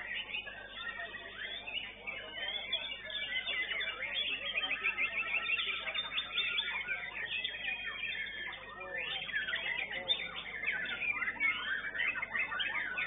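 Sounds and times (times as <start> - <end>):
bird singing chirps and whistles: 0.0 - 13.0.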